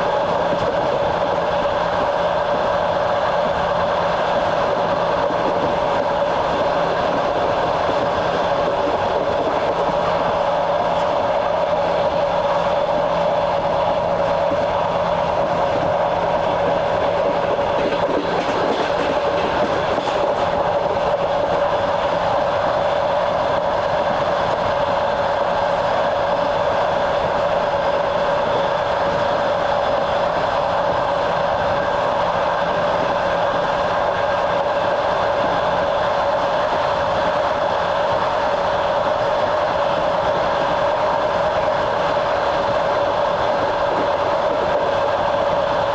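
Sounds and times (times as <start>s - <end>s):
train wheels rolling on rails: 0.0s - 45.9s.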